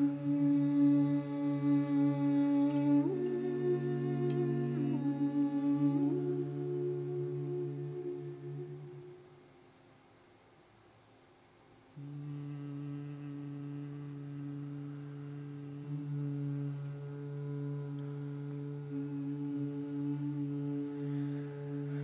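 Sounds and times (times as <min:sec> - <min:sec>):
vocal ensemble humming low chord: 0:00.0 - 0:09.5, 0:12.0 - 0:22.0.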